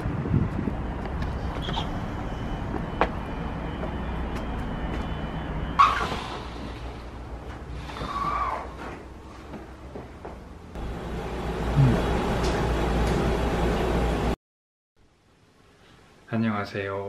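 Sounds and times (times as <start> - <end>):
low rumble of street traffic: 0.0 - 14.4.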